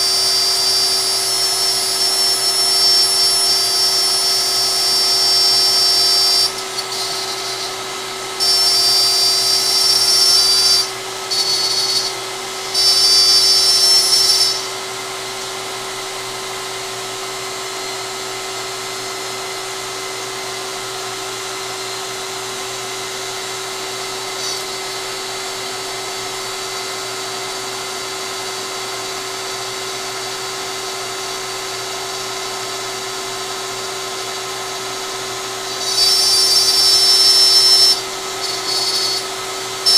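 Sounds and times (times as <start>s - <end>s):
router motor whine: 0.0s - 39.9s.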